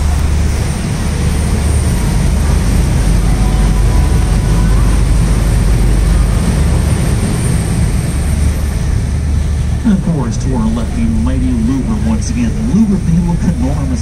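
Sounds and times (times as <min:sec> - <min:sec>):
boat engine rumble: 0:00.0 - 0:14.0
hiss of wind and water: 0:00.0 - 0:14.0.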